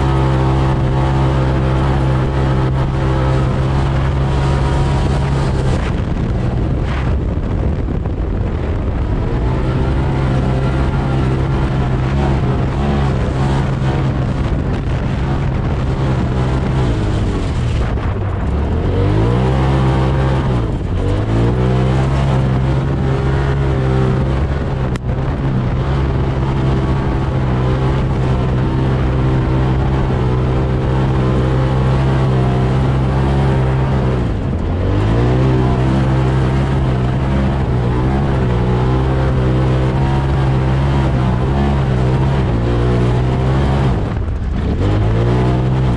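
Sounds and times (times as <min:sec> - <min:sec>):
side-by-side engine revving: 0:00.0 - 0:45.9.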